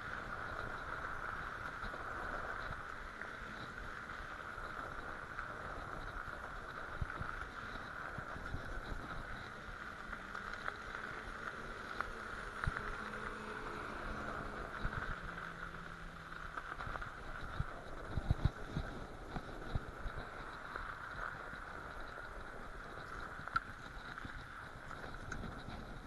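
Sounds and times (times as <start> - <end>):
bicycle tyres on snow: 0.0 - 26.0
faint low hum: 0.0 - 26.0.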